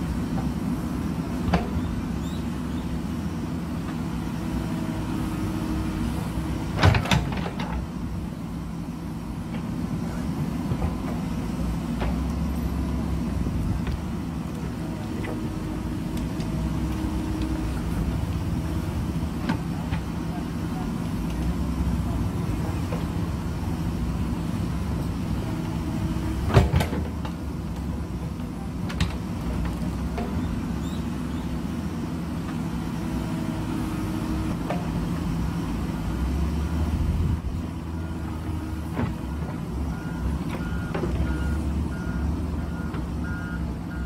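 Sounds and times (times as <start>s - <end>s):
diesel engine running under load: 0.0s - 44.0s.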